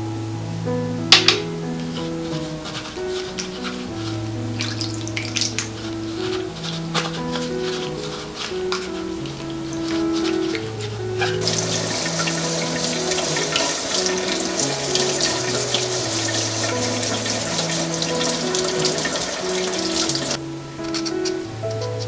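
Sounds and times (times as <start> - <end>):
background music: 0.0 - 22.0
faucet water spraying: 1.3 - 21.3.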